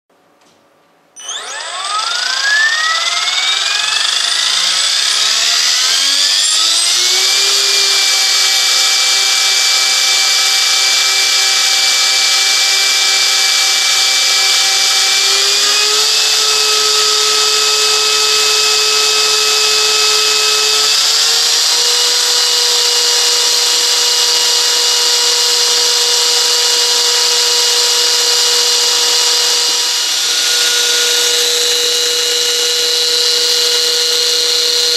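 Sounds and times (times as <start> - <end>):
model helicopter whine: 1.2 - 34.9.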